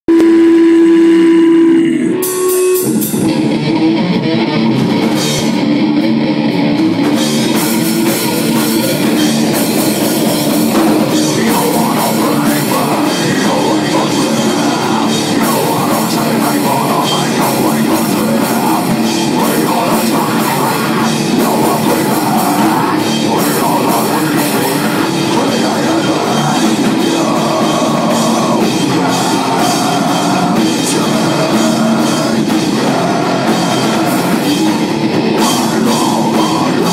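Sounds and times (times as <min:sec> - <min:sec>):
guitar: 0:00.0 - 0:36.9
drum kit: 0:00.1 - 0:36.9.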